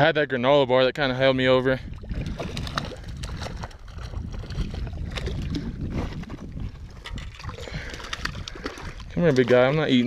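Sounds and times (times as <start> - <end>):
wind rumble on microphone: 1.2 - 9.5
fish splashing in water: 1.9 - 10.0.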